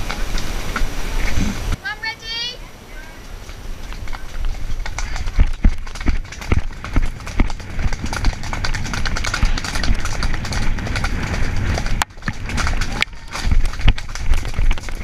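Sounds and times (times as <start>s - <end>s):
horse hoofbeats on dirt: 0.0s - 1.7s, 3.2s - 15.0s
wind over microphone: 0.0s - 15.0s.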